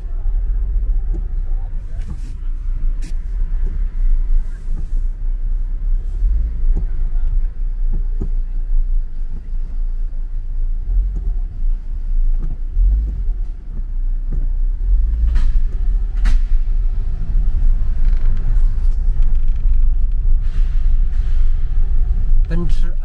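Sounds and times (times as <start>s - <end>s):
car rumbling from inside cabin: 0.0s - 23.0s.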